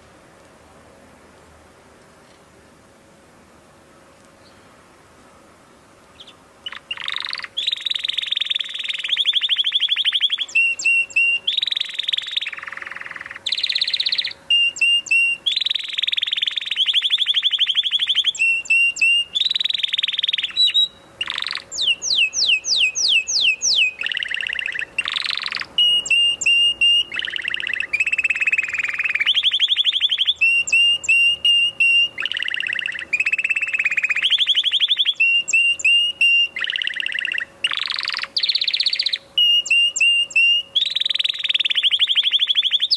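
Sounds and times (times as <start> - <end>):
canary singing trills: 6.1 - 42.9.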